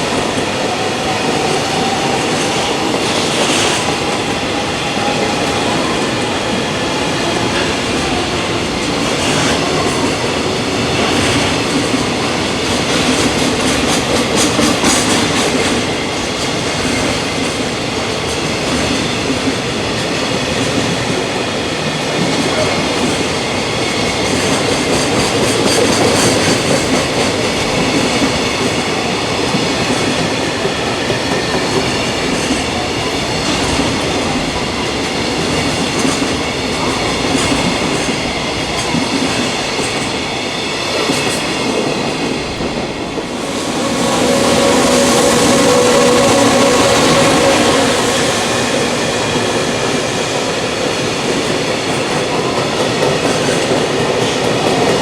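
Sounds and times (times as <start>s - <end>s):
train wheels rushing on rail: 0.0s - 55.0s.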